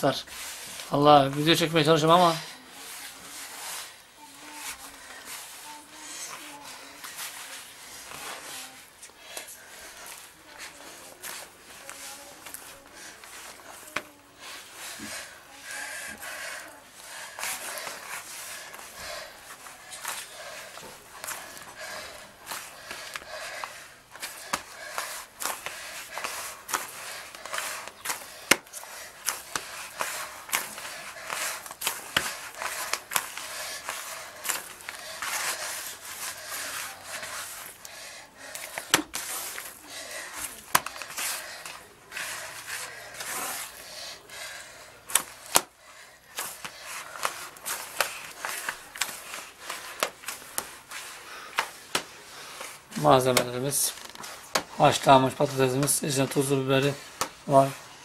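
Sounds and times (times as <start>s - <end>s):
hands kneading dough: 0.0s - 58.0s.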